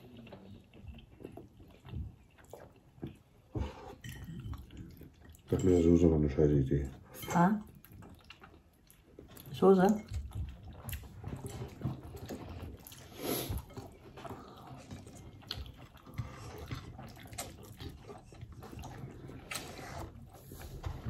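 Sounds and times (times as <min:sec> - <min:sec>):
crunchy chewing of fried chicken: 0:00.0 - 0:06.0, 0:07.6 - 0:21.0.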